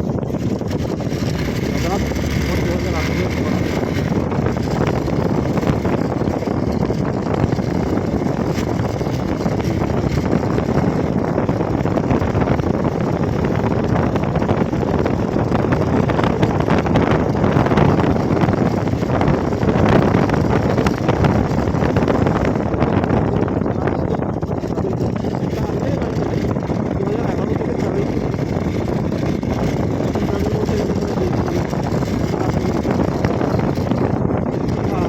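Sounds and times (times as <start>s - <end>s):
motorcycle engine running: 0.0s - 35.0s
wind rushing over microphone: 0.0s - 35.0s.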